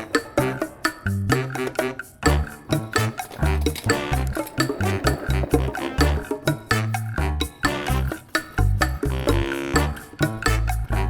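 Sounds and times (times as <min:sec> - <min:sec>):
upbeat music with bouncy bass: 0:00.0 - 0:11.0.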